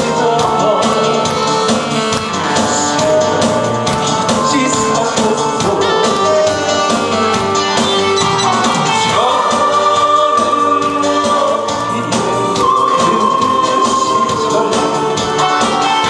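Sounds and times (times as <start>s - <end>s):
man singing into microphone: 0.0s - 7.1s, 9.0s - 15.8s
backing track with drum beat: 0.0s - 16.0s.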